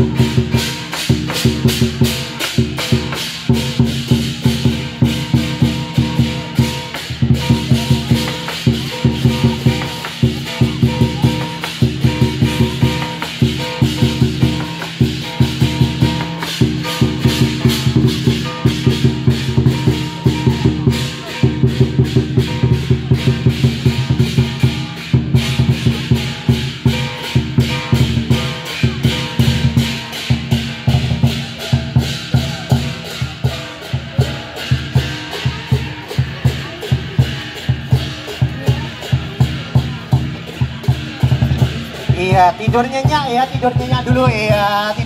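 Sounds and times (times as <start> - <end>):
hand cymbals clashing: 0.0 - 45.0
large drum fast rhythm: 0.0 - 45.0.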